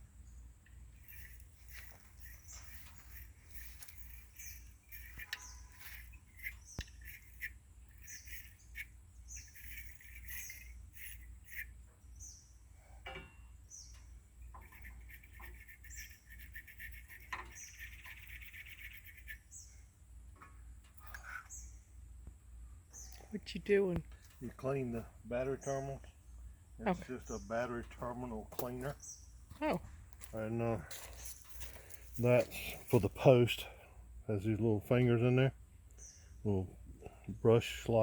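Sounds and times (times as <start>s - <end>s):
buzzy bird trill: 0.0s - 12.8s, 13.4s - 20.0s, 21.0s - 22.0s, 22.9s - 29.8s, 30.4s - 33.6s
birds chirping: 0.0s - 38.0s
low steady hum: 0.0s - 38.0s.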